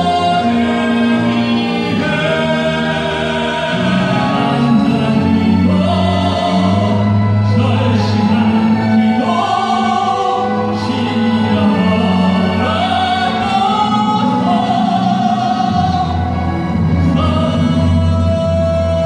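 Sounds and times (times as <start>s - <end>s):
instrumental accompaniment: 0.0s - 19.0s
man singing long held notes: 0.0s - 19.0s.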